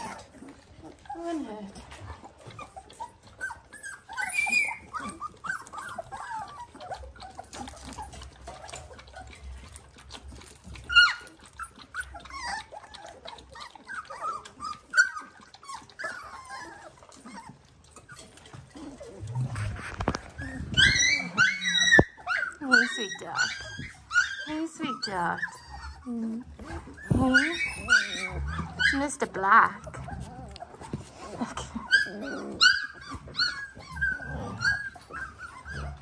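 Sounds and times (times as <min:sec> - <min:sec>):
puppies squeaking and whimpering: 0:00.0 - 0:36.0.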